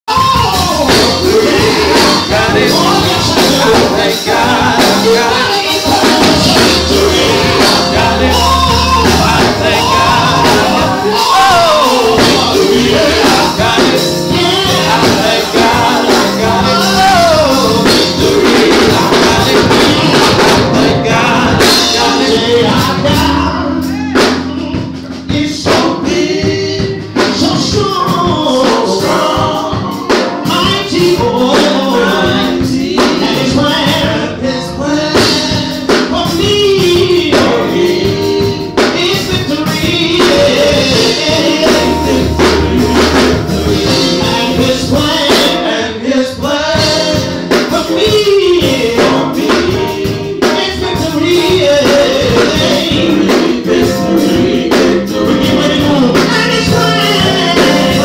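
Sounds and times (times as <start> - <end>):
gospel singing voices: 0.0 - 58.0
steady beat: 0.1 - 34.3, 35.2 - 45.7, 46.8 - 58.0
bass notes: 0.1 - 45.8, 46.4 - 58.0.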